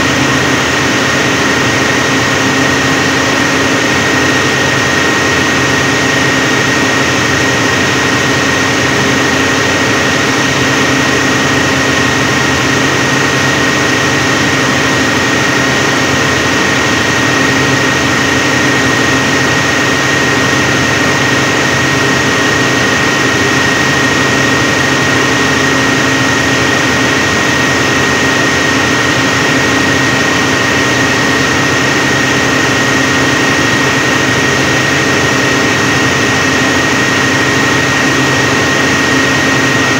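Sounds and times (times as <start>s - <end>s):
generator engine drone: 0.0s - 39.9s.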